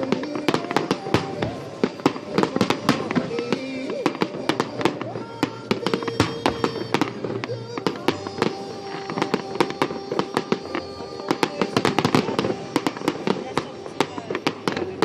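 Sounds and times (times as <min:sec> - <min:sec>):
background music: 0:00.0 - 0:15.0
fireworks cracking and popping: 0:00.0 - 0:15.0.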